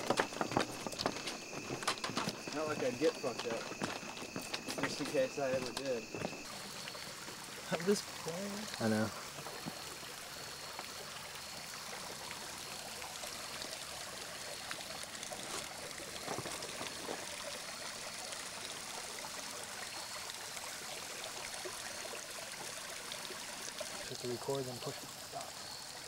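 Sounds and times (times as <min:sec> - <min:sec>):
creek water trickling over rocks: 0:00.0 - 0:26.0.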